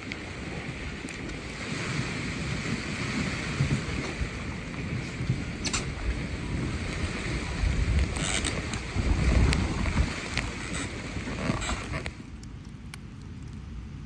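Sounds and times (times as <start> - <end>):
choppy water slapping docks: 0.0 - 12.7
wind buffeting microphone: 0.0 - 14.0.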